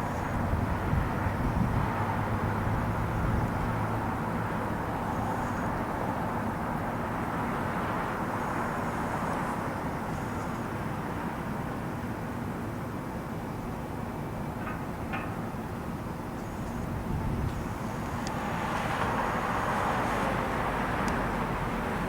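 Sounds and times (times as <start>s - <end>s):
aircraft rumble in flight: 0.0s - 22.0s.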